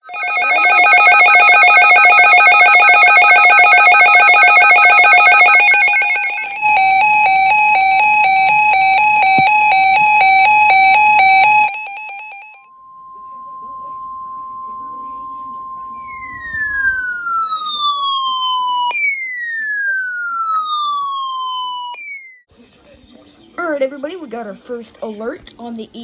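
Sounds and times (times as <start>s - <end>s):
electronic alarm tones: 0.0s - 22.4s.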